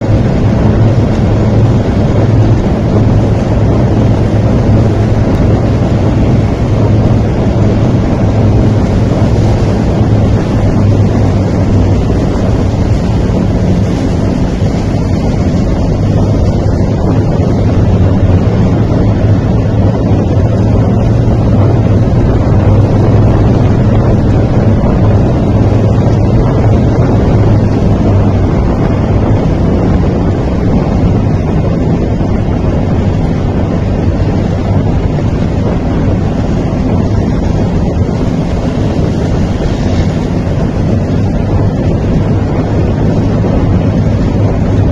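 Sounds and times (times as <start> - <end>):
heavy vehicle engine humming: 0.0 - 44.9
wind on microphone: 0.0 - 44.9.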